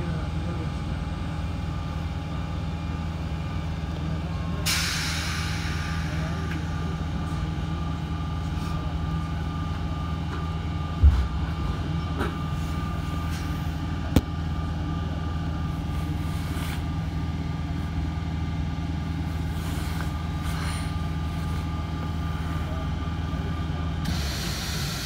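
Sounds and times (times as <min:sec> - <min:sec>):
train equipment humming: 0:00.0 - 0:25.0.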